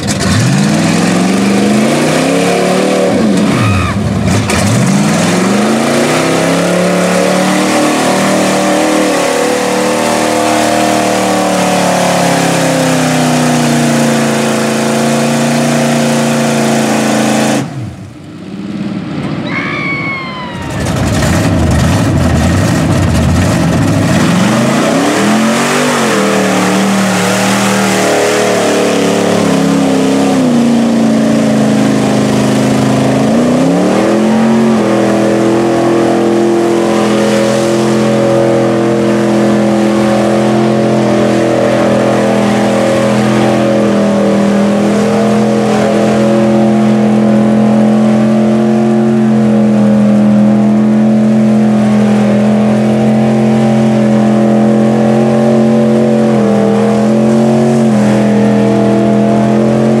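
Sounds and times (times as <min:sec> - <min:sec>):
truck engines revving: 0:00.0 - 1:00.0.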